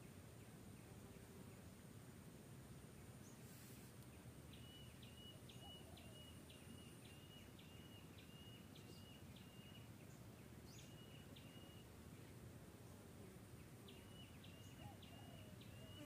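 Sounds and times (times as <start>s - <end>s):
faint outdoor ambience: 0.0s - 16.0s.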